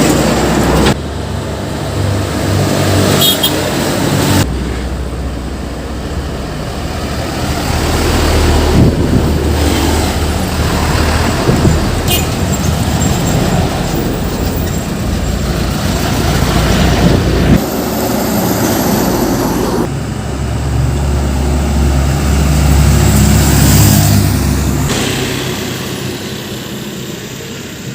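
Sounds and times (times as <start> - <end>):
diesel truck engine droning: 0.0 - 27.9
road traffic: 0.0 - 27.9.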